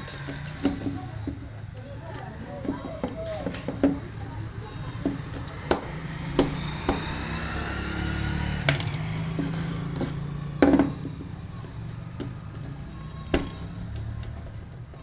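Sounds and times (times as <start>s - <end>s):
hand tools clicking and knocking: 0.0s - 15.0s.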